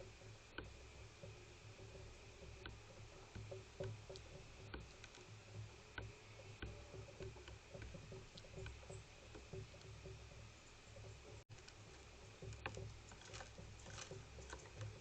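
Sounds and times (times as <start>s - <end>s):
faint ticks and taps: 0.0s - 15.0s
low steady hum: 0.0s - 15.0s.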